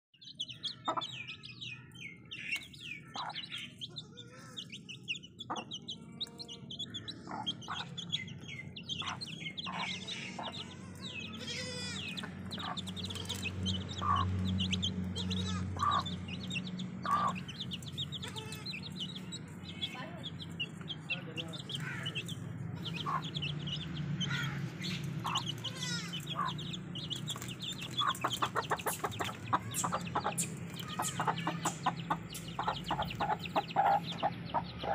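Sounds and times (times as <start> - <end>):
chicks peeping: 0.2 - 34.9
hen clucking: 0.6 - 1.4, 2.4 - 34.9.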